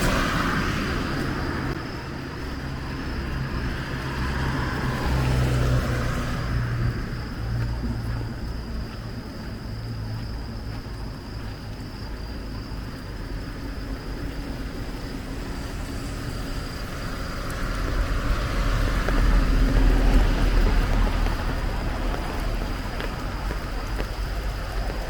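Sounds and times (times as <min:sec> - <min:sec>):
car passing on wet street: 0:00.0 - 0:25.0
steady rain: 0:00.0 - 0:25.0.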